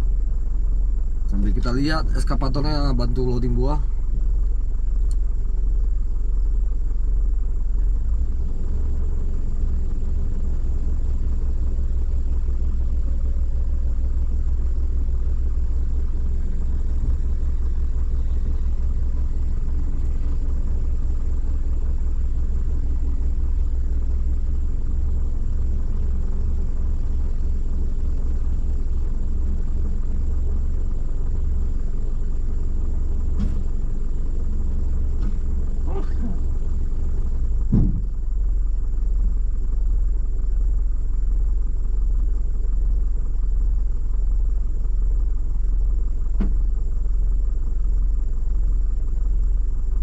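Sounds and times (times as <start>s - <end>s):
low engine rumble: 0.0s - 50.0s.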